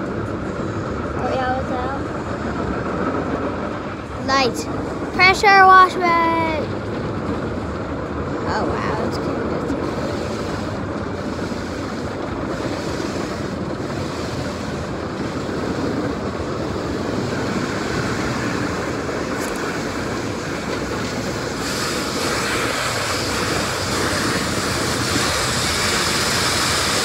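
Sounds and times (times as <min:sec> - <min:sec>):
water pouring over car windows: 0:05.1 - 0:27.0.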